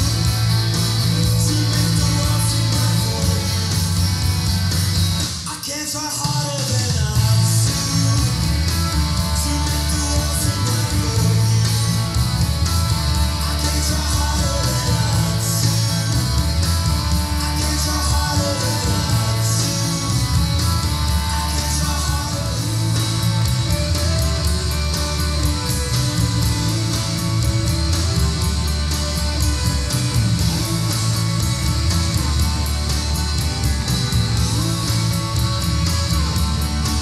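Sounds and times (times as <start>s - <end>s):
rock music with guitar and bass: 0.0s - 37.0s.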